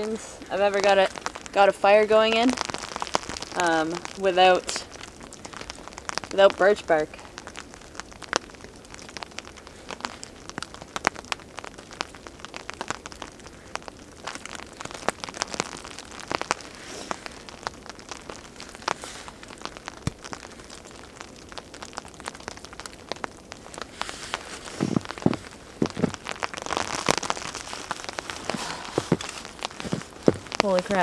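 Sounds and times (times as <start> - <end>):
fire of wet sticks crackling: 0.0 - 31.0
rain pattering and dripping: 0.0 - 31.0.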